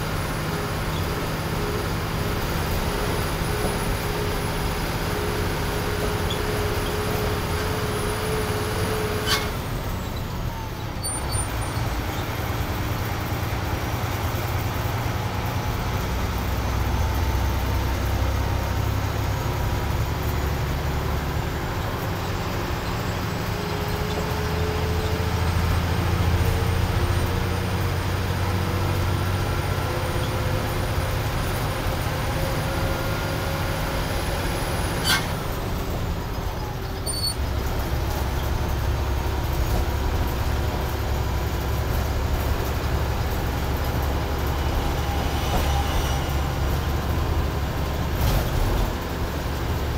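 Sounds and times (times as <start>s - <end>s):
bus engine running: 0.0s - 49.9s
tyre and road noise: 0.0s - 49.9s.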